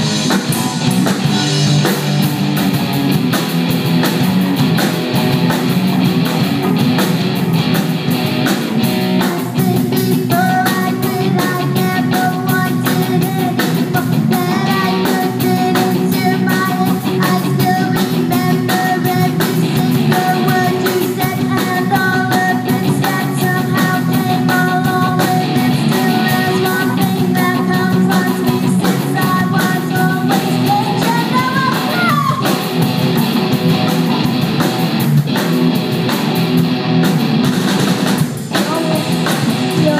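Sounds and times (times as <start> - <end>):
drum kit beat: 0.0 - 39.9
electric guitar: 0.0 - 39.9
rock band playing: 0.0 - 39.9.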